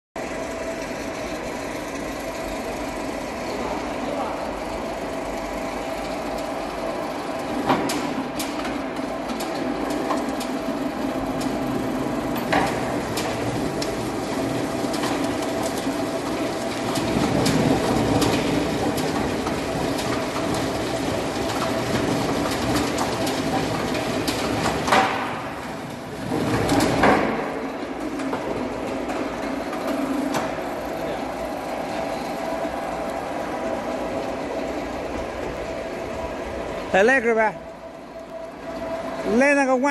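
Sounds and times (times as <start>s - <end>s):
log debarker hum and rumble: 0.2s - 39.9s.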